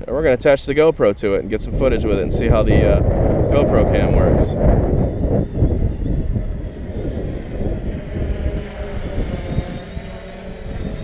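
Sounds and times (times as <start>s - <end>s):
drone propellers humming: 0.0s - 11.0s
wind buffeting microphone: 0.0s - 11.0s.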